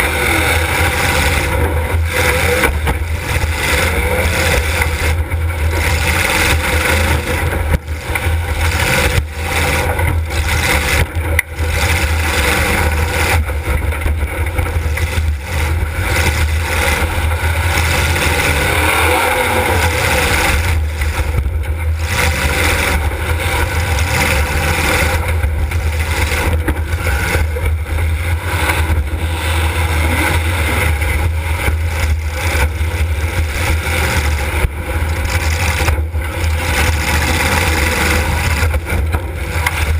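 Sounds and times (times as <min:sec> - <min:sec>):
car engine running hard: 0:00.0 - 0:39.9.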